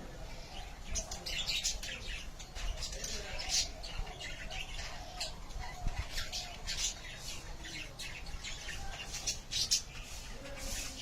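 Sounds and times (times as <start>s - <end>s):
budgerigars chirping and squawking: 0.1s - 11.0s.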